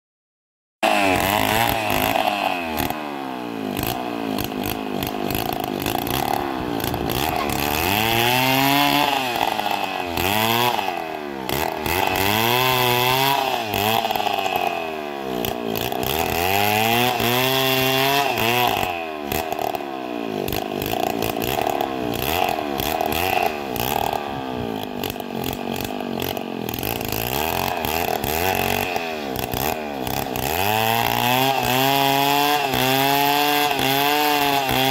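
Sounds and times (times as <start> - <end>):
small engine revving: 0.8 - 34.9.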